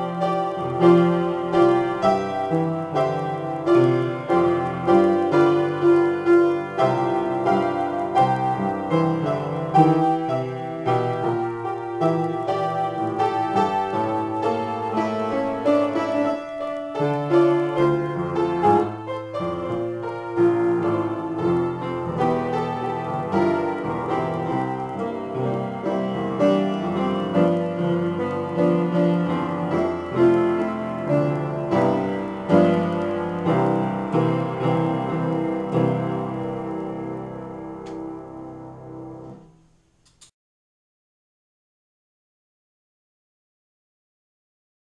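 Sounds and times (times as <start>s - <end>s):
upright piano improvisation: 0.0s - 40.3s.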